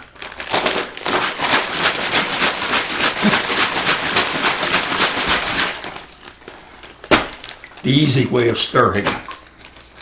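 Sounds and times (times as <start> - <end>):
plastic bag crinkling: 0.0 - 8.0, 8.8 - 10.0.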